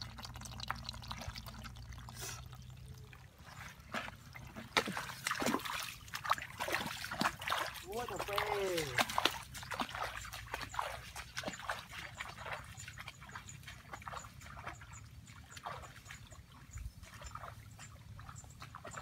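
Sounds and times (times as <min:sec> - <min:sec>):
footsteps splashing through water: 0:03.2 - 0:19.0.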